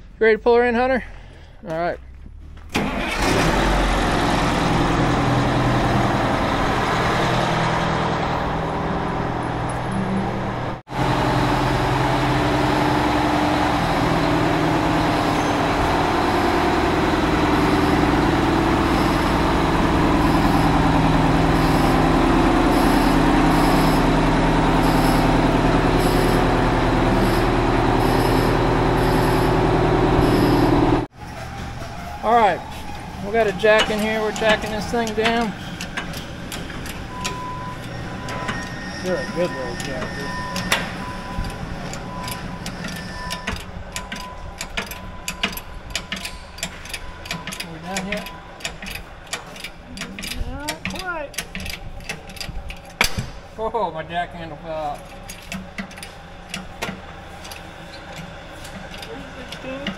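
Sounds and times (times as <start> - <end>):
truck diesel engine running: 1.2 - 59.9.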